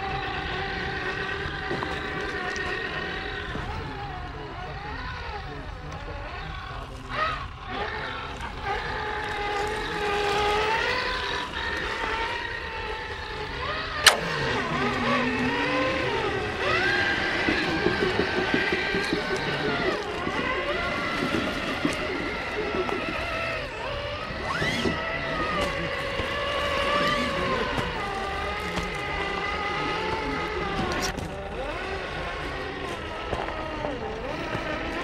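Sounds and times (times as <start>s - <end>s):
rc truck electric motors whining: 0.0s - 35.0s.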